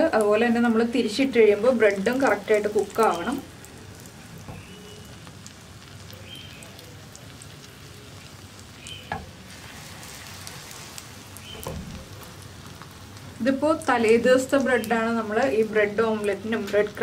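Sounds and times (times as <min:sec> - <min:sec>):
omelette sizzling in a pan: 0:00.0 - 0:17.0.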